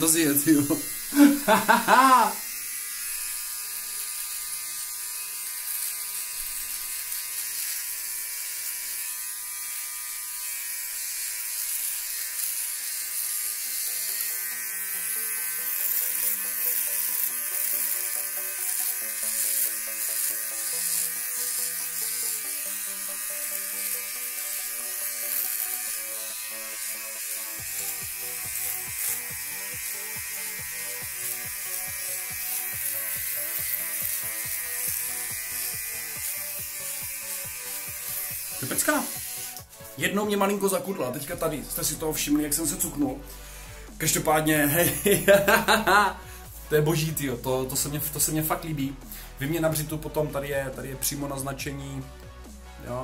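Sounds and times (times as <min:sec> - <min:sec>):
electric trimmer buzzing: 0:00.0 - 0:46.6
hairs being cut: 0:00.0 - 0:51.3
background music: 0:00.0 - 0:53.0.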